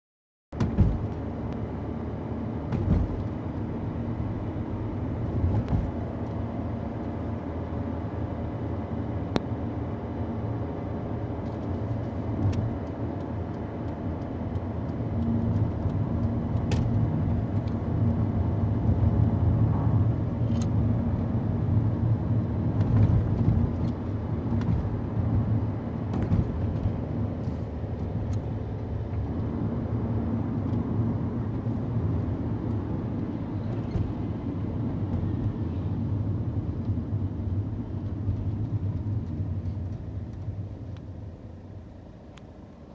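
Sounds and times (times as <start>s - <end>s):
car engine and road noise: 0.5s - 42.9s.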